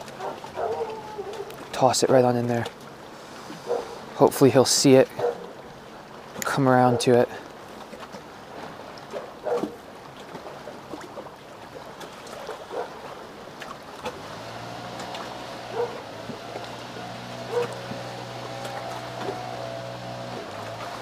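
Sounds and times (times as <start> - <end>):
water lapping against wooden dock: 0.0 - 21.0.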